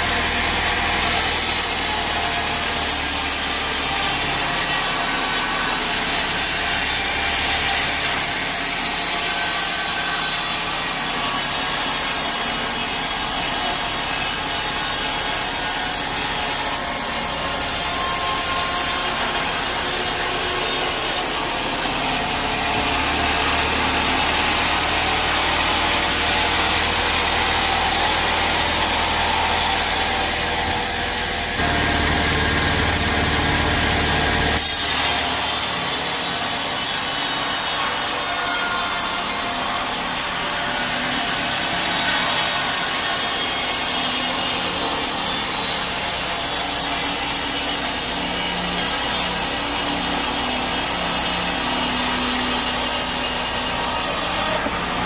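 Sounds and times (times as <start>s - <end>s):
bandsaw cutting through log: 0.0s - 55.0s.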